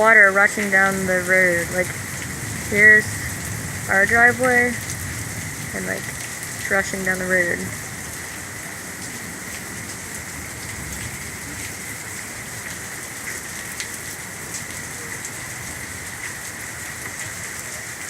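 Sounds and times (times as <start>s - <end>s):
heavy rain falling: 0.0s - 18.0s
raindrops ticking close by: 0.0s - 18.0s.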